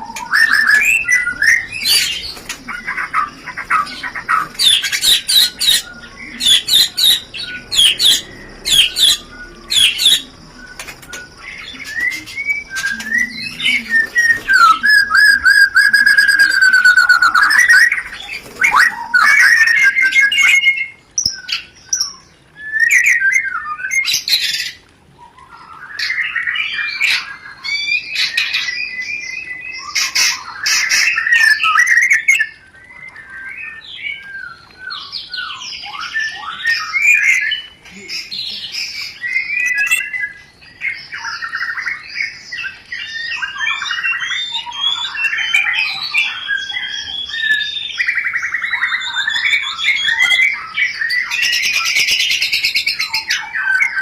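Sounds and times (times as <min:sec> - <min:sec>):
bird song with whistles and trills: 0:00.0 - 0:54.0.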